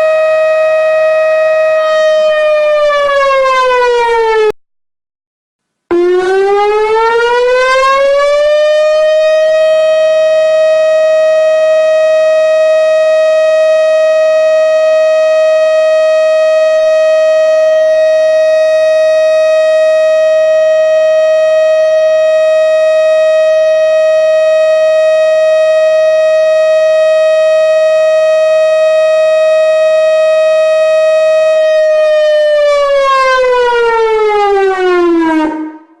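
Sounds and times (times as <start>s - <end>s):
warning siren steady tone: 0.0s - 4.6s, 5.9s - 36.0s.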